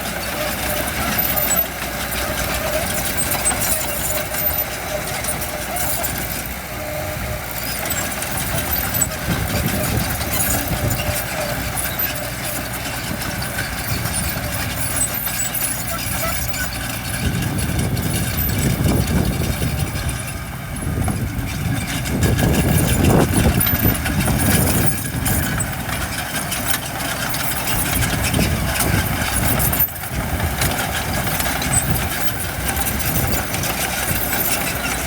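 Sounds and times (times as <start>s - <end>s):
diesel engines of heavy machinery: 0.0s - 35.0s.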